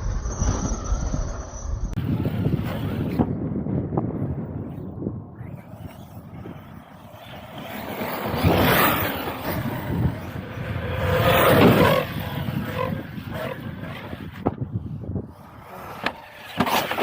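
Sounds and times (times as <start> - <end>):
rc truck motor and tyres: 0.0 - 17.0.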